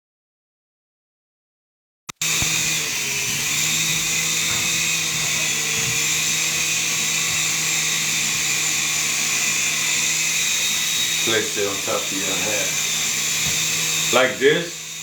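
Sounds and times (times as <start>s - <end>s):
rc helicopter motor whine: 2.1s - 15.0s.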